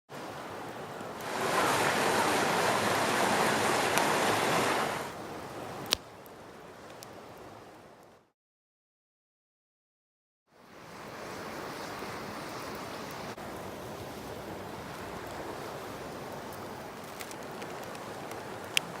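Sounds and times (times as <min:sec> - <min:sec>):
river water rushing: 0:00.1 - 0:07.9, 0:10.6 - 0:19.0.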